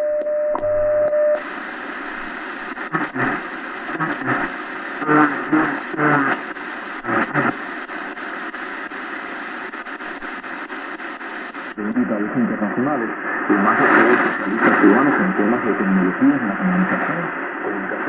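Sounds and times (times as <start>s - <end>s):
radio time signal tone with ticks: 0.0s - 18.0s
faint voice through static: 1.4s - 18.0s
radio static hiss: 1.4s - 18.0s.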